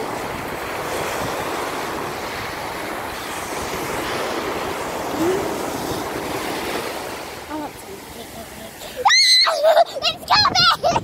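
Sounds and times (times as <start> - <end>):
wind buffeting microphone: 0.0 - 9.1, 9.7 - 11.0
sea surf washing ashore: 0.0 - 11.0.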